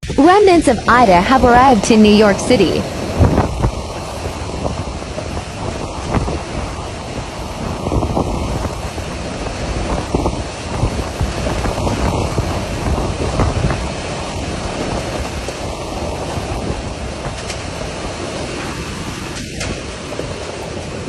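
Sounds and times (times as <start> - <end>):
heavy rain: 0.0 - 21.0
wind buffeting microphone: 2.6 - 21.0.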